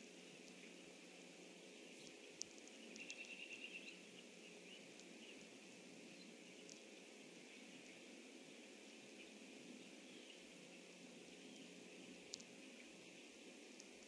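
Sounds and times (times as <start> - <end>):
low outdoor hiss: 0.0 - 14.0.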